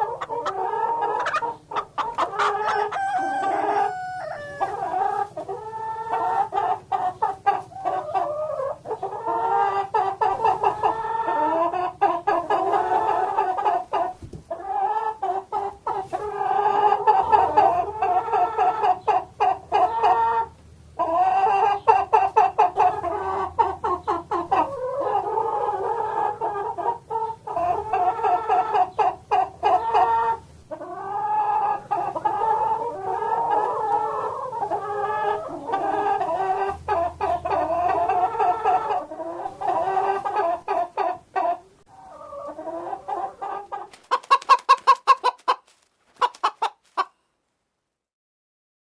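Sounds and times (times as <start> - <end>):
hens clucking: 0.0 - 47.2.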